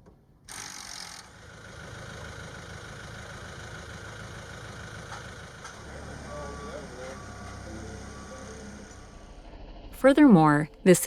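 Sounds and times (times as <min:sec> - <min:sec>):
engine rumbling steadily: 0:00.1 - 0:11.0.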